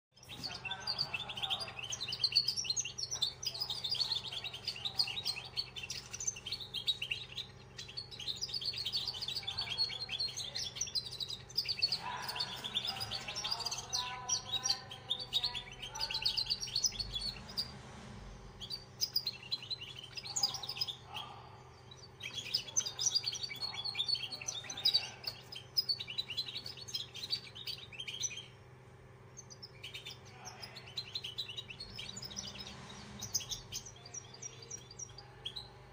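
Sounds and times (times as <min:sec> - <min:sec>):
songbird twittering chirps: 0:00.1 - 0:35.9.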